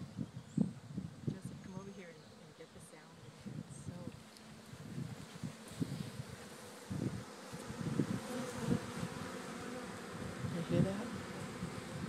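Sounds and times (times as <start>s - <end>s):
bee swarm buzzing: 0.9s - 12.0s.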